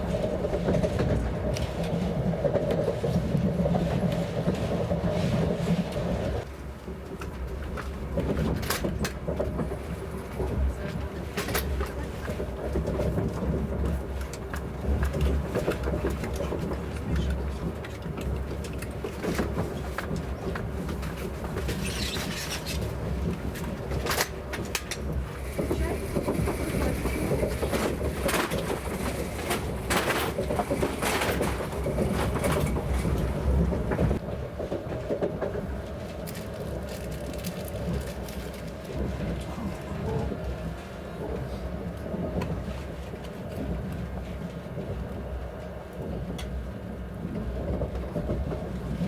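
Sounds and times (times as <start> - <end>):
train cabin low rumble: 0.0 - 49.0
wheels clicking and rattling: 0.1 - 40.6.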